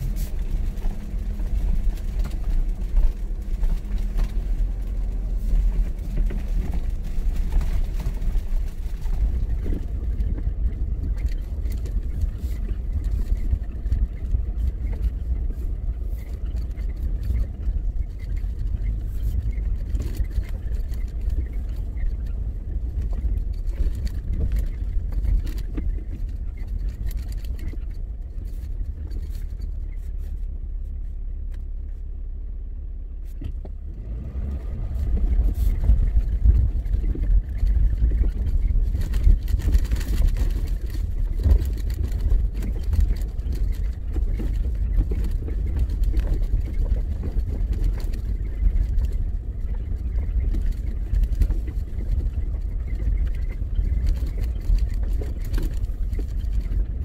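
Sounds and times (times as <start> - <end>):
gravel knocks and crackles: 0.0 - 32.1, 33.2 - 57.0
vehicle rumbling on rough road: 0.0 - 57.0.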